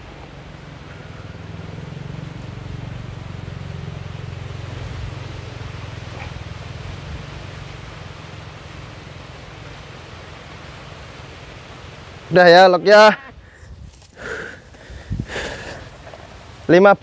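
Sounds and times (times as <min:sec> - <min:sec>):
low steady rumble: 0:00.0 - 0:16.8.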